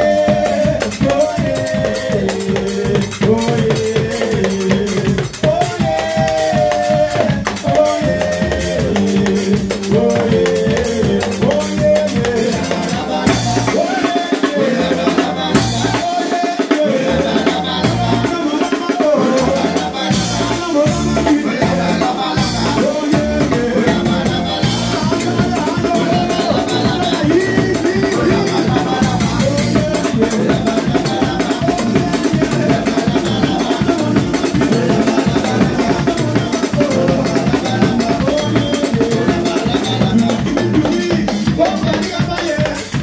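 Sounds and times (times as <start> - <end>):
electric bass line: 0.0 - 16.2, 16.8 - 43.0
drum kit beating: 0.0 - 43.0
keyboard: 0.0 - 43.0
lead singer's voice: 0.0 - 43.0.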